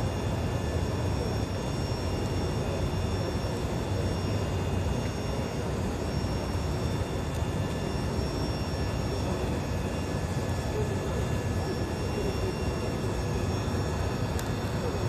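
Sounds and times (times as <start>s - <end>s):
engine droning with high whine: 0.0s - 15.0s.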